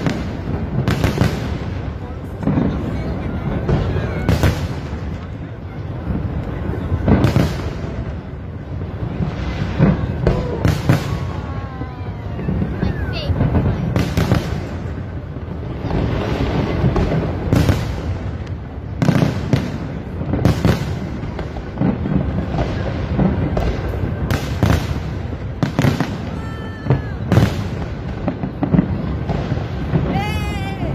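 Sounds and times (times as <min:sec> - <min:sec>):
fireworks bangs: 0:00.0 - 0:30.9
low rumble of fireworks: 0:00.0 - 0:30.9.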